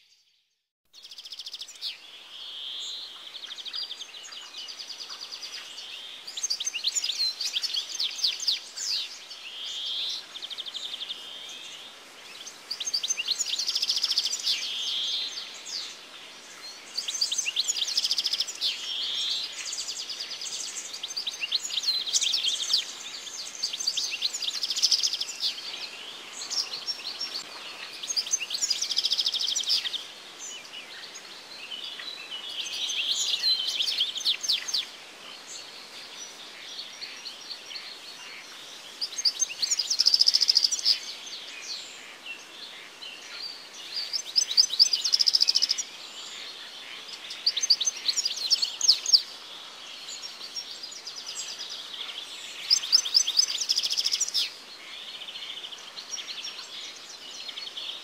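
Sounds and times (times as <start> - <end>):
songbirds chirping and trilling: 0.0 - 58.0
faint steady hiss: 0.9 - 58.0.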